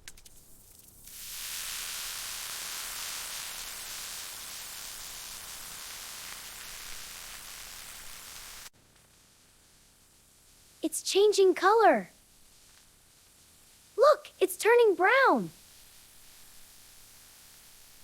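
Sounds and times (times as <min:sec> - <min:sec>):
food sizzling in a frying pan: 0:00.3 - 0:10.8, 0:12.1 - 0:14.1, 0:15.5 - 0:18.0.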